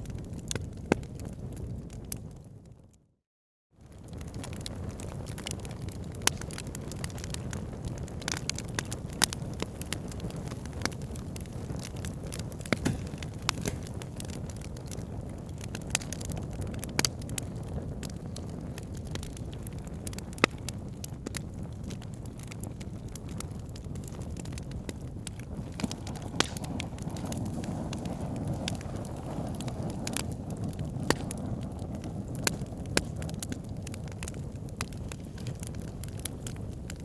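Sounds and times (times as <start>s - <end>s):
wood fire crackling and popping: 0.0s - 2.7s, 3.8s - 37.0s
fire flames rumbling: 0.0s - 3.0s, 3.8s - 37.0s.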